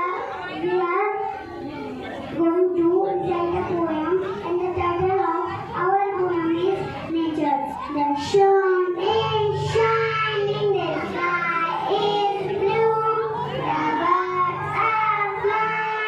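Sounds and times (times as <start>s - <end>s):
child singing: 2.4s - 16.0s.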